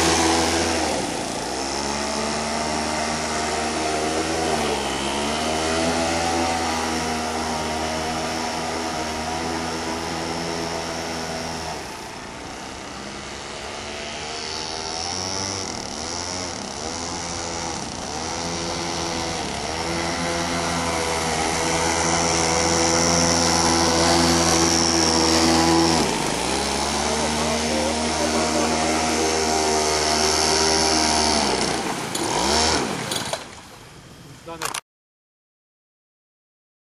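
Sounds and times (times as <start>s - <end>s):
two-stroke model boat engine: 0.0s - 34.8s.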